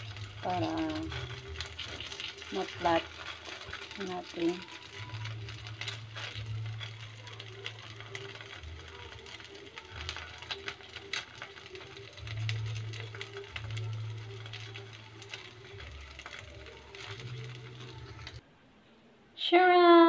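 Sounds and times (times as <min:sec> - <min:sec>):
patties frying in oil: 0:00.0 - 0:18.4.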